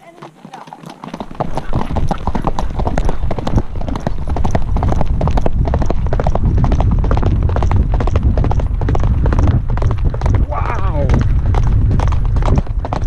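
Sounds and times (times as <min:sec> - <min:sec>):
horse galloping on gravel: 0:00.0 - 0:13.0
wind rumble on microphone: 0:01.2 - 0:13.0.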